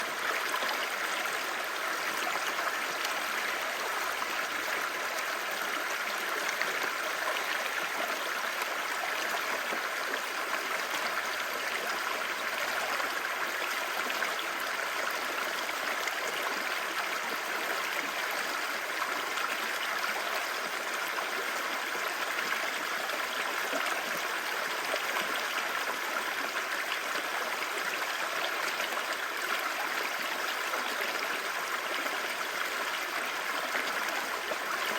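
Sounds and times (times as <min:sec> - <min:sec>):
stream babbling: 0:00.0 - 0:34.9.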